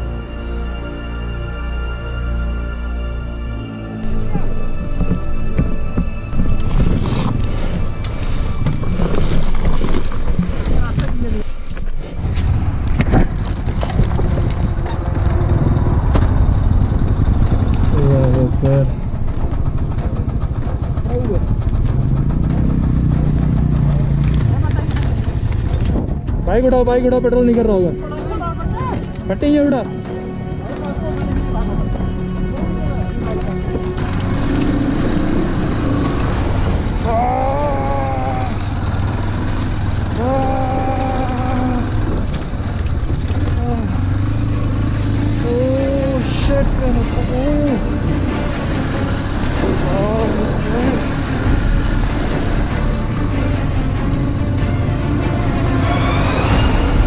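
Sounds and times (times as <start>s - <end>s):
wind: 0.0s - 57.0s
motorcycle engine rumbling: 4.0s - 57.0s.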